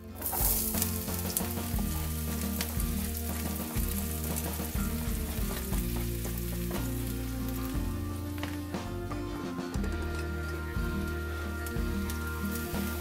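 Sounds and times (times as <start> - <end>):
vegetables sizzling in hot oil: 0.0 - 8.9, 10.1 - 13.0
soft background music: 0.0 - 13.0
spatula stirring in a wok: 0.0 - 13.0.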